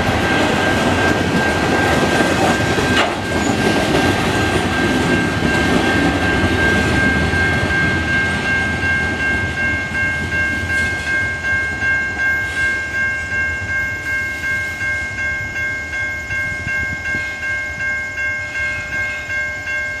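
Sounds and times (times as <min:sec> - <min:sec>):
crossing warning bell ringing: 0:00.0 - 0:20.0
train cars rumbling: 0:00.0 - 0:20.0.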